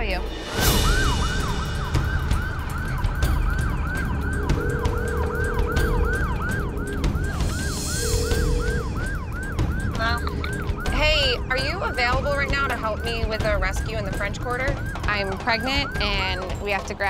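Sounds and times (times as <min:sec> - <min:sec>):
police siren yelping: 0:00.4 - 0:17.0.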